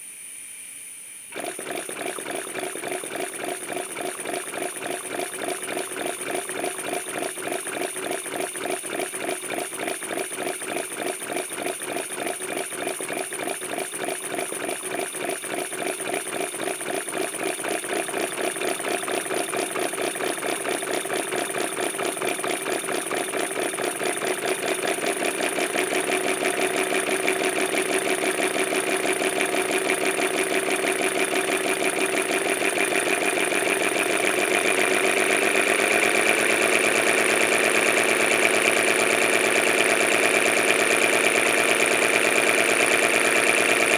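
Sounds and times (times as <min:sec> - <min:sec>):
model engine running: 0:01.3 - 0:43.9.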